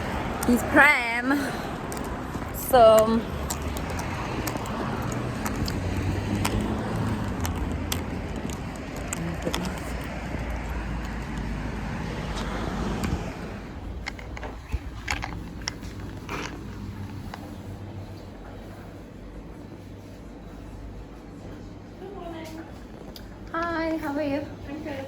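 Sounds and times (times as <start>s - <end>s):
street noise rumble and hiss: 0.0s - 25.0s.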